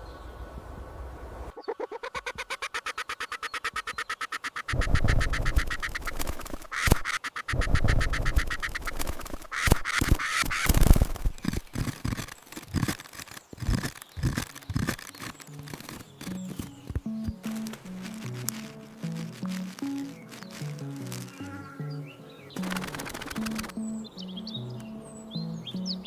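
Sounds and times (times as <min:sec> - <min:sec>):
woodpecker chattering call: 0:01.6 - 0:25.0.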